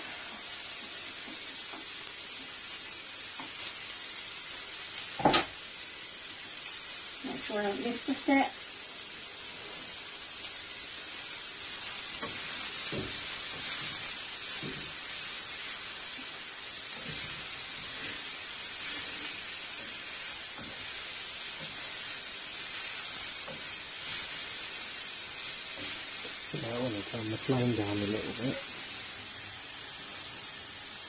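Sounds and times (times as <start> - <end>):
vegetables sizzling in a frying pan: 0.0 - 31.0.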